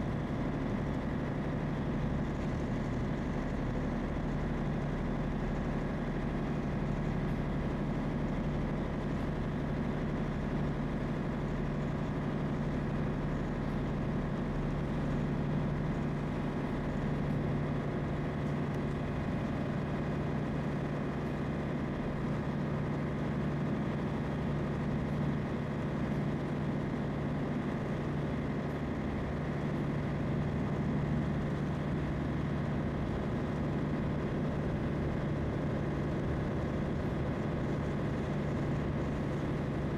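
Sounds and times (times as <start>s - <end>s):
boat engine humming: 0.1s - 39.9s.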